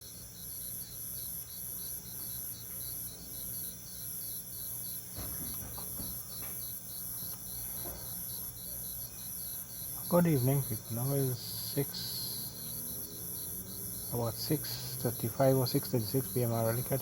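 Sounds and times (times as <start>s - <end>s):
crickets chirping: 0.0s - 17.0s
insects trilling: 0.0s - 17.0s
steady low hum: 0.0s - 17.0s.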